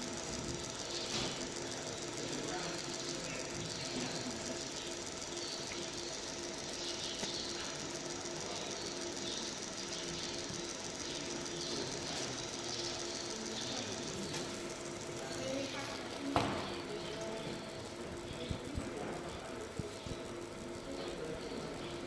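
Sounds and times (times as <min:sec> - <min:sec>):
faint machine hum: 0:00.0 - 0:22.0
laser marking machine hiss: 0:00.0 - 0:22.0.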